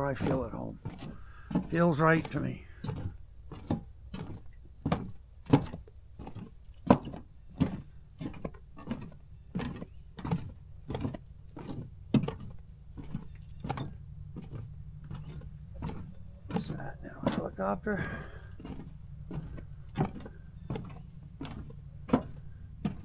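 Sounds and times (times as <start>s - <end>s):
footsteps on wooden boardwalk: 0.0s - 23.0s
steady low hum: 0.0s - 23.0s.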